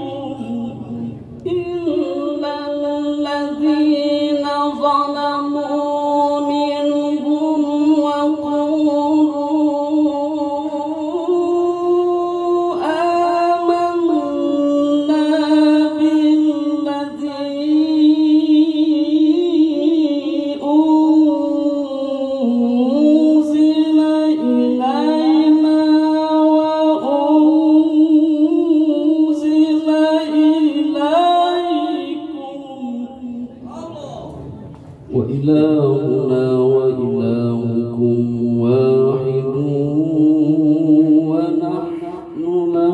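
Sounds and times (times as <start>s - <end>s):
man chanting recitation: 0.0s - 34.4s, 35.0s - 42.9s.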